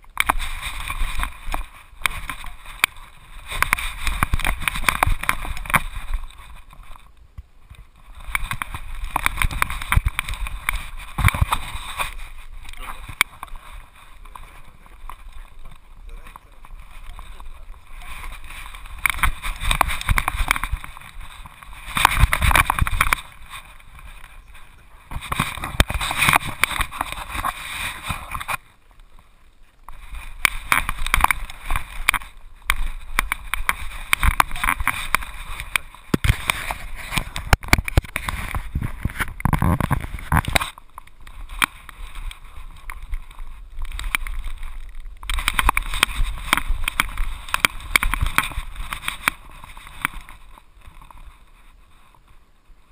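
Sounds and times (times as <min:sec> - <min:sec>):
muffled rustling and crunching in snow: 0:00.0 - 0:52.9.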